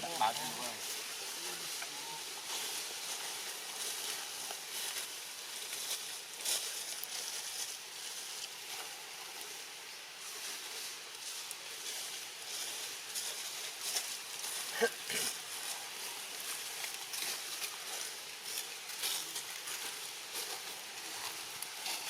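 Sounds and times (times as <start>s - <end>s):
steady hissing background noise: 0.0s - 22.0s.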